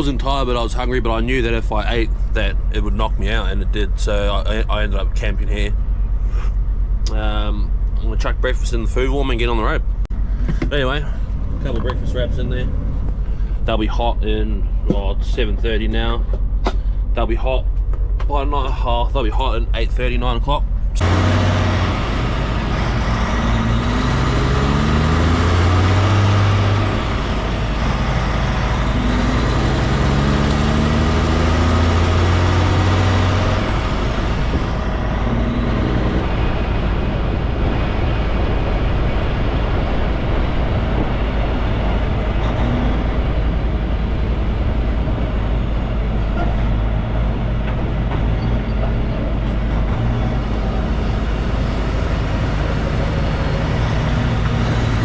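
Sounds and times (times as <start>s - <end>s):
truck diesel engine pulling away: 0.0s - 55.0s.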